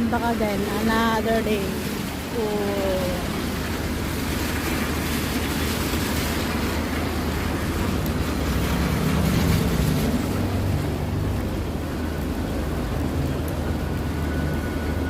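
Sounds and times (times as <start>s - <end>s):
low vehicle rumble: 0.0s - 15.0s
rain hissing: 0.0s - 15.0s.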